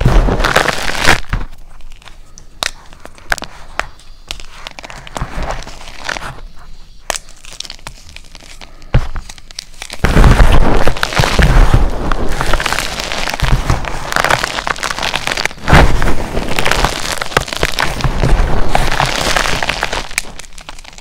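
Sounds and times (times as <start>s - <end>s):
chalk block crackling and crunching: 0.0s - 21.0s.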